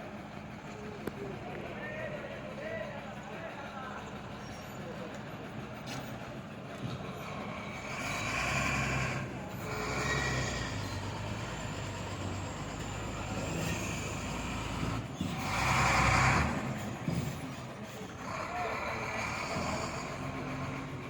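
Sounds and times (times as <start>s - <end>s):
machinery rumbling: 0.0s - 21.0s.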